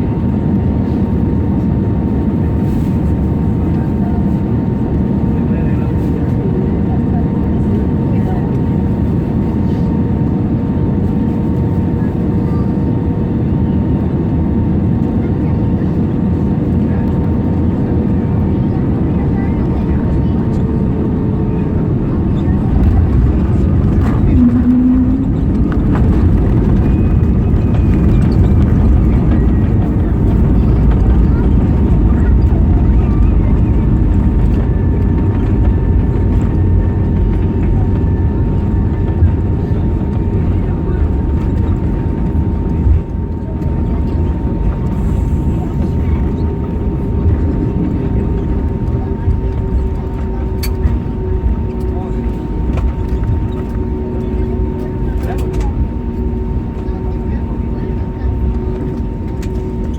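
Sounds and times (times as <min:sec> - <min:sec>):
airliner cabin engine rush: 0:00.0 - 0:59.9.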